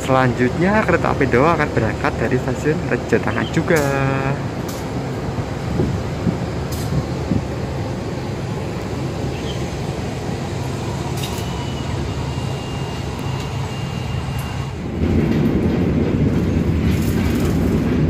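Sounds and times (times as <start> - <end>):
low rumble of passenger train: 0.0 - 18.0.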